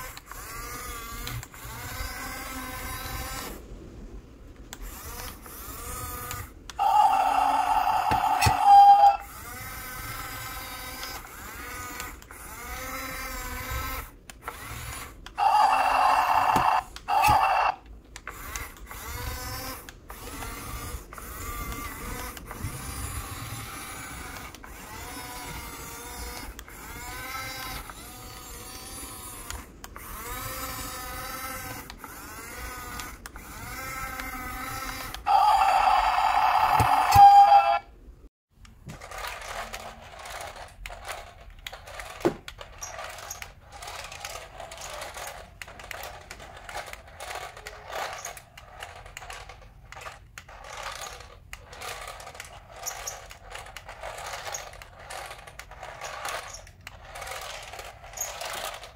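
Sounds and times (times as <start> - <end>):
toy motors and gears whirring: 0.0 - 37.9, 38.6 - 58.9.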